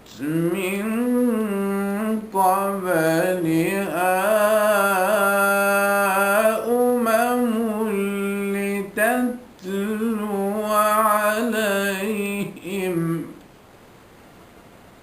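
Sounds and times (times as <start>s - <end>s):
man reciting melodically: 0.0s - 13.4s.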